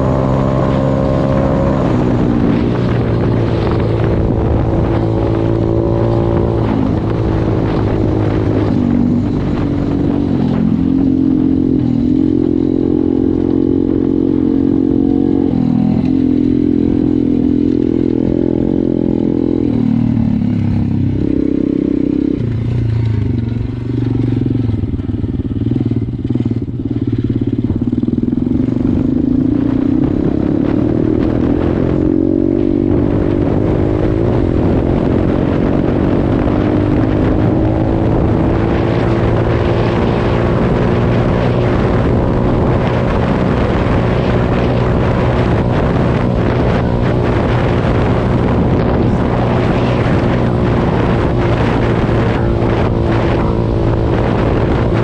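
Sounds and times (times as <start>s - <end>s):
motorbike engine revving: 0.0s - 55.0s
rushing wind noise: 0.0s - 55.0s.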